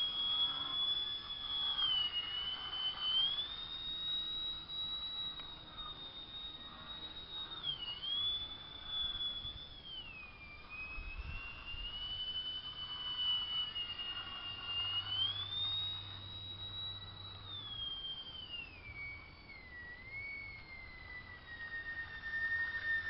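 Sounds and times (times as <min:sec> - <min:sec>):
model plane motor whining: 0:00.0 - 0:23.0.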